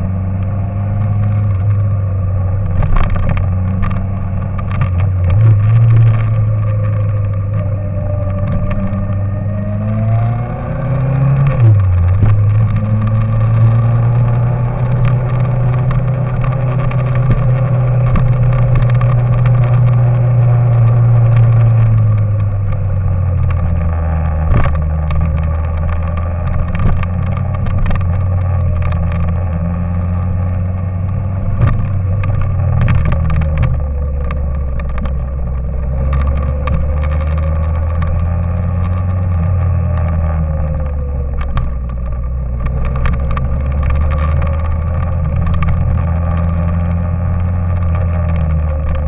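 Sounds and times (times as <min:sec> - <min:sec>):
motor engine droning: 0:00.0 - 0:49.0
scattered clicks: 0:00.3 - 0:49.0.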